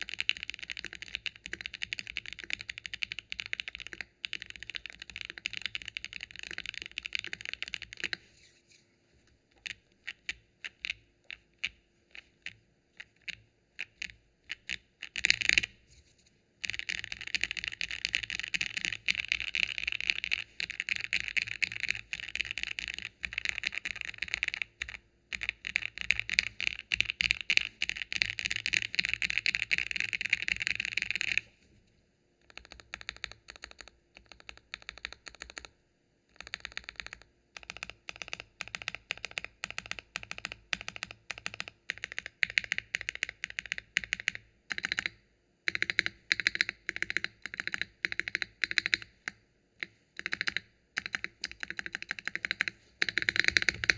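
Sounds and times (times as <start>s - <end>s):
mechanical keyboard typing: 0.0s - 8.3s, 9.5s - 15.7s, 16.6s - 31.5s, 32.4s - 35.7s, 36.3s - 53.9s.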